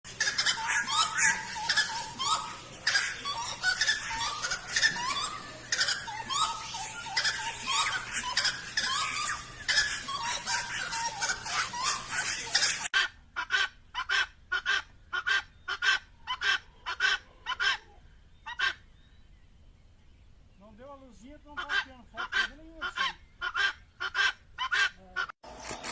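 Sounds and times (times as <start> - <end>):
birds singing: 0.1 - 25.9.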